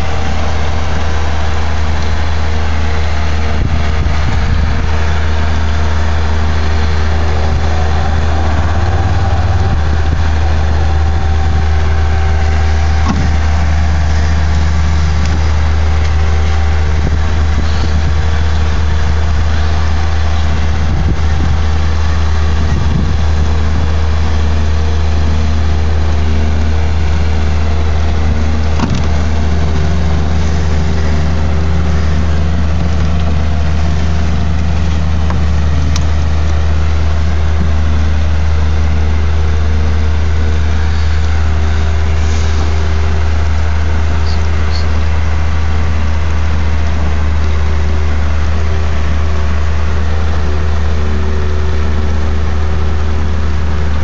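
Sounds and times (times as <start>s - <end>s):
boat engine idling: 0.0s - 54.0s.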